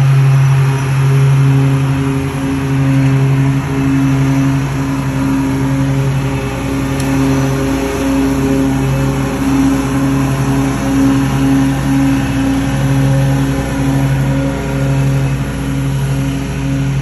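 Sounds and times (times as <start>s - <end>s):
lawnmower engine running: 0.0s - 17.0s.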